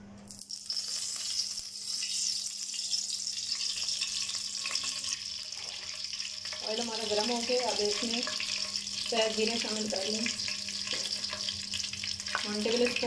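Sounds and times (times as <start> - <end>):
oil sizzling in pan: 0.3 - 13.0.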